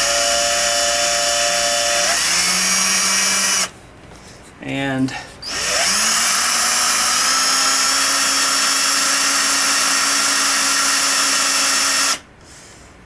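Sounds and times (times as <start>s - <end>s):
electric drill drilling plastic: 0.0s - 3.7s, 5.5s - 12.2s.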